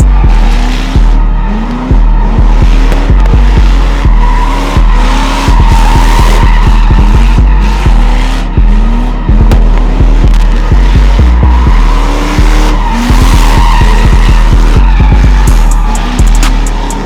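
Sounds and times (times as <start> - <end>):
music with heavy bass beat: 0.0 - 17.0
tires screeching on pavement: 0.0 - 17.0.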